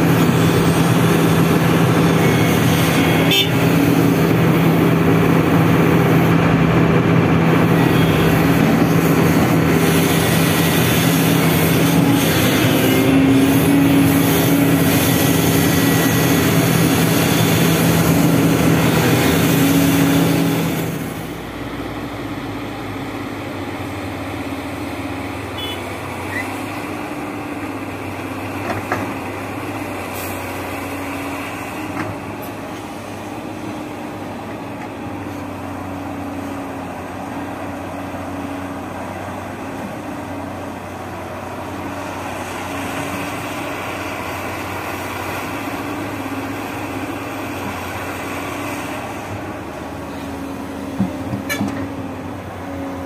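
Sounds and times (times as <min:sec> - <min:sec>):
excavator engine and hydraulics: 0:00.0 - 0:53.0.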